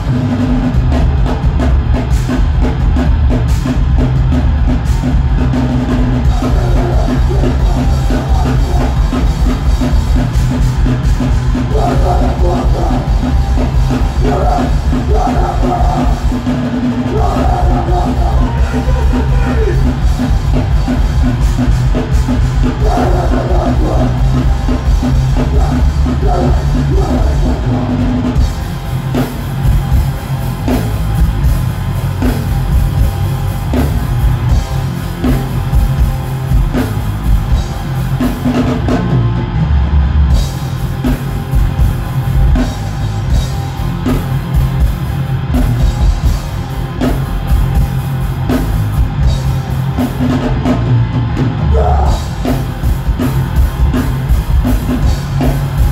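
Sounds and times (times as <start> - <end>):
electric guitars: 0.0 - 55.9
fast drum kit: 0.0 - 55.9.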